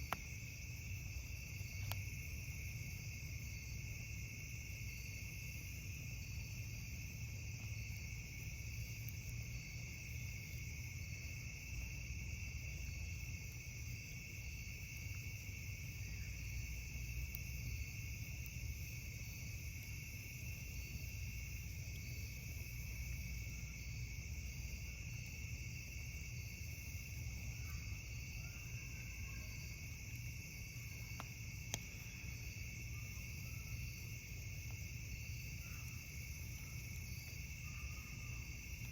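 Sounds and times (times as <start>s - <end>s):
crickets chirring: 0.0s - 38.9s.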